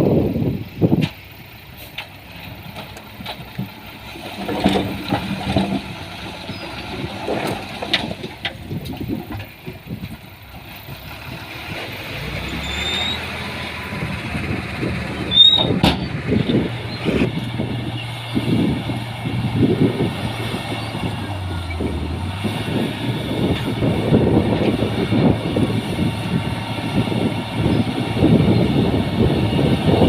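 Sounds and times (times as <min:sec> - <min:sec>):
earthmoving machinery diesel engine: 0:00.0 - 0:30.0.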